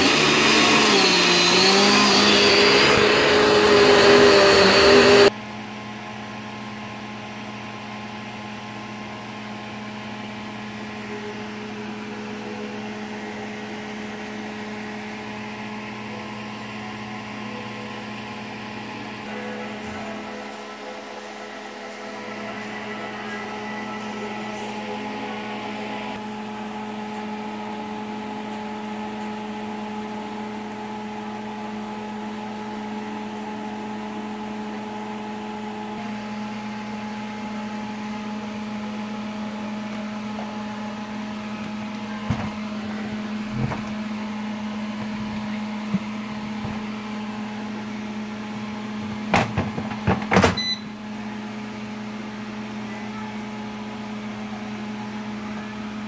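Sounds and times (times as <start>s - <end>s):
air fryer fan humming: 0.0s - 56.0s.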